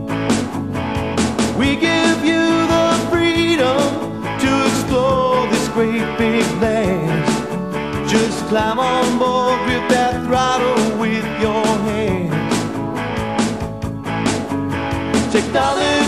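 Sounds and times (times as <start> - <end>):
rock music with drum beat: 0.0 - 16.0.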